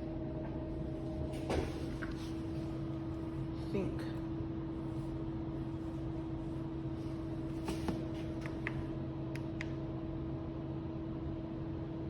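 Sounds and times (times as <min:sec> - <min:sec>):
washing machine hum: 0:00.0 - 0:12.0.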